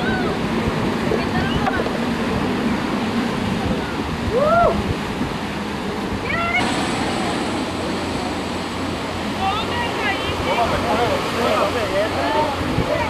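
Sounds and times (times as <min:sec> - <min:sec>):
powerboat engine drone: 0:00.0 - 0:13.0
wind and water rushing: 0:00.0 - 0:13.0.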